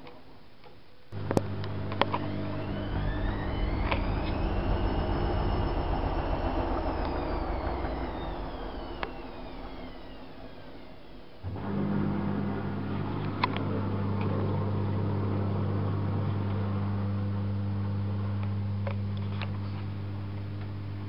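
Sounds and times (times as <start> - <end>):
mains hum: 0.0 - 21.0
washing machine pump starting: 1.2 - 19.8.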